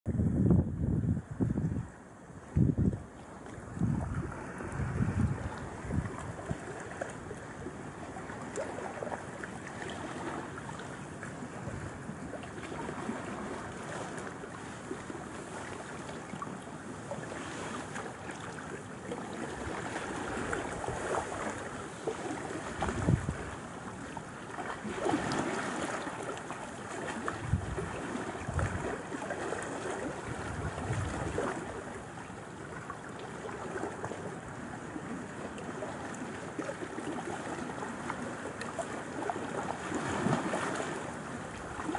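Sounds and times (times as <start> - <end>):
water lapping against rocks: 2.4 - 41.9.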